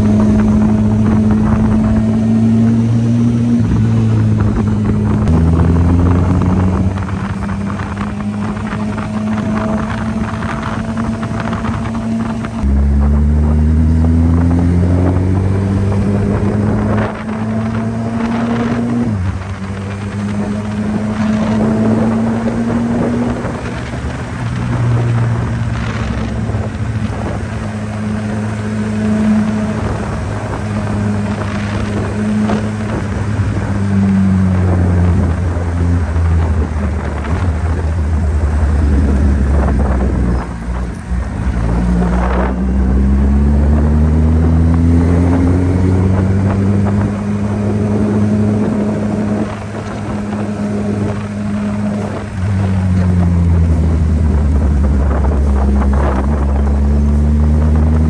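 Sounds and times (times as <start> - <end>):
motorcycle engine accelerating: 0.0 - 58.0
wind on microphone: 0.0 - 58.0.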